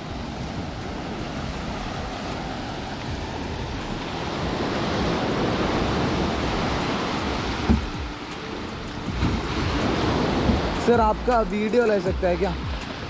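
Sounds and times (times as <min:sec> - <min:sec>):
sea surf washing up beach: 0:00.0 - 0:13.0
wind buffeting microphone: 0:00.0 - 0:13.0.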